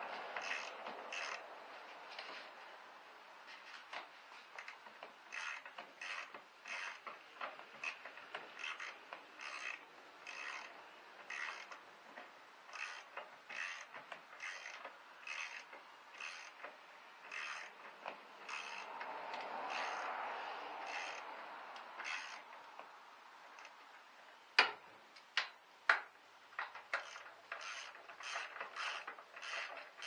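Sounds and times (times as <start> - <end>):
ratchet wrench clicking: 0.3 - 1.5, 4.5 - 22.9, 23.5 - 23.8, 24.6 - 30.0.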